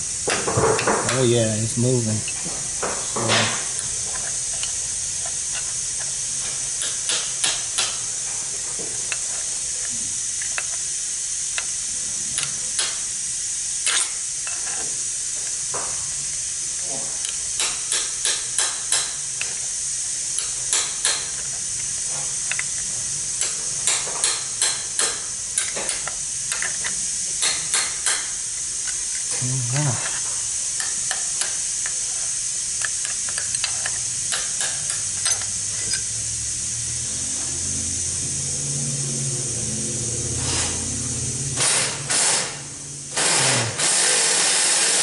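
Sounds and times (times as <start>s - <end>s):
steady hiss: 0.0s - 45.0s.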